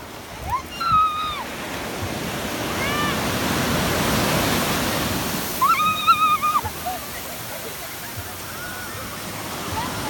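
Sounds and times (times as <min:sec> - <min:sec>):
wave breaking on sand: 0:00.0 - 0:10.0.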